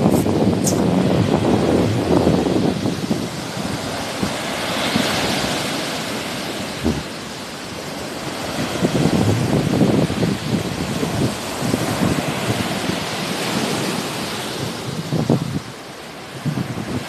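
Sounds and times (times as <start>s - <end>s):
sea waves washing on shore: 0.0s - 17.0s
wind buffeting microphone: 0.0s - 17.0s.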